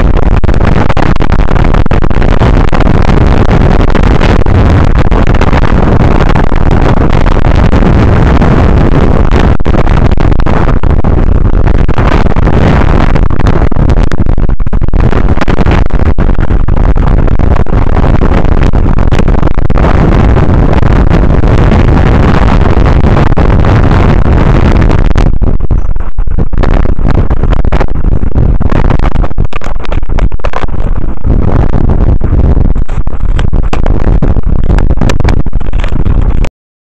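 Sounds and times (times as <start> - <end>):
wind buffeting microphone: 0.0 - 36.5.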